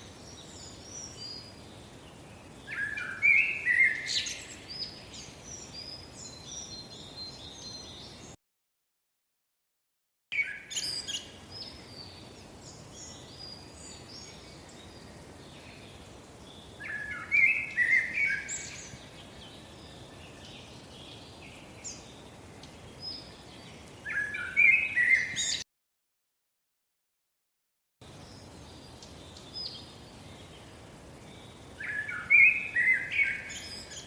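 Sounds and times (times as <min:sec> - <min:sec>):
birds chirping: 0:00.0 - 0:08.4, 0:10.3 - 0:25.6, 0:28.0 - 0:34.0
faint steady hiss: 0:00.0 - 0:08.4, 0:10.4 - 0:25.6, 0:28.0 - 0:34.0.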